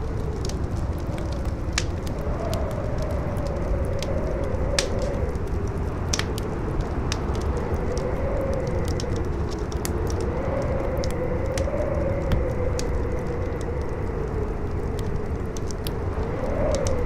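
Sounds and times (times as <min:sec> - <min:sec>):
campfire crackling and popping: 0:00.0 - 0:17.0
howling wind: 0:00.0 - 0:17.0.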